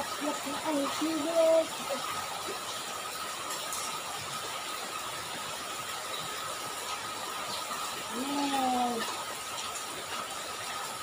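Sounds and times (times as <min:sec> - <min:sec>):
rain on a flooded road: 0:00.0 - 0:11.0.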